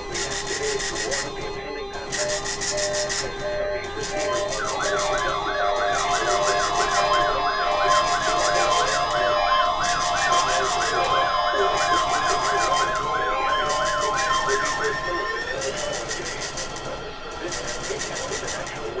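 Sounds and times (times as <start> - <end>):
steady alarm tone: 0.0 - 19.0
warbling siren-like tone: 2.1 - 18.2.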